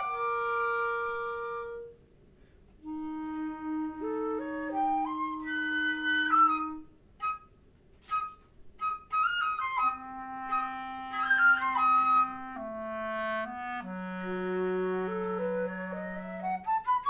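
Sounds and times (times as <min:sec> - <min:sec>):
clarinet low notes: 0:00.0 - 0:02.0, 0:02.8 - 0:17.0
flute: 0:00.0 - 0:17.0.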